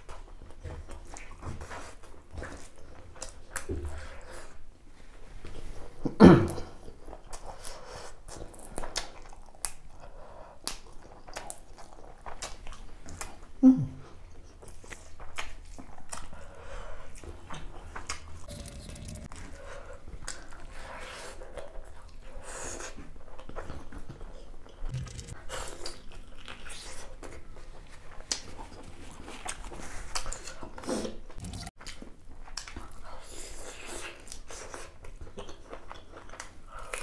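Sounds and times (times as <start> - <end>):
person chewing with wet smacks: 0.0 - 4.6, 6.6 - 37.0.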